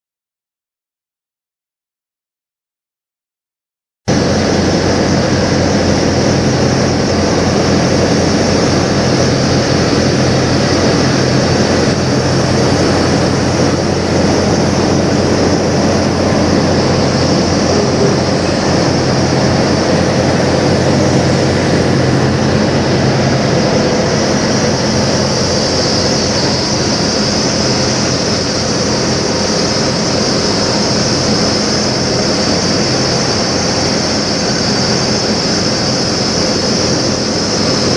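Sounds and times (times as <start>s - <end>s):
diesel truck engine idling: 4.1s - 37.9s.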